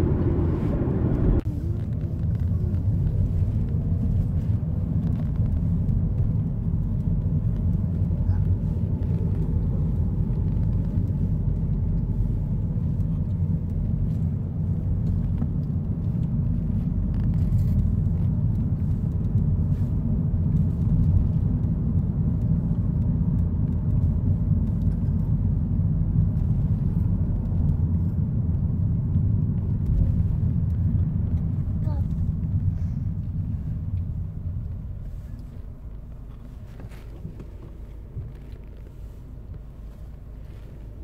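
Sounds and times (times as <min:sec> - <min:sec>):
car cabin rumble: 0:00.0 - 0:41.0.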